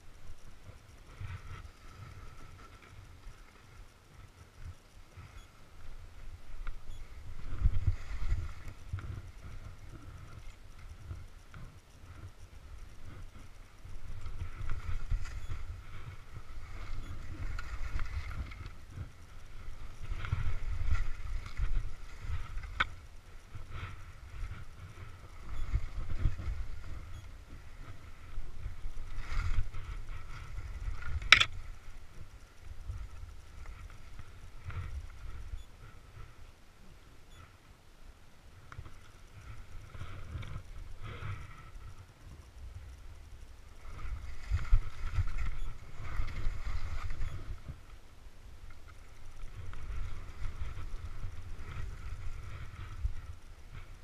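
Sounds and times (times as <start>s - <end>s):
wind rumbling on microphone: 0.0s - 54.0s.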